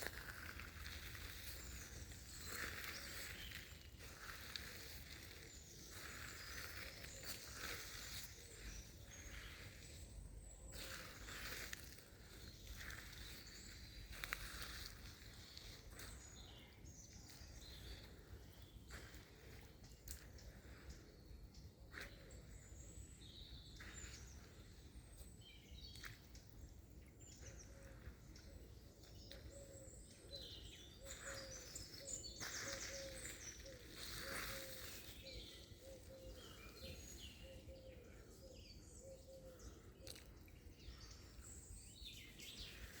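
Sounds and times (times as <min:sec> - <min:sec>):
birds chirping and trilling: 0:00.0 - 0:43.0.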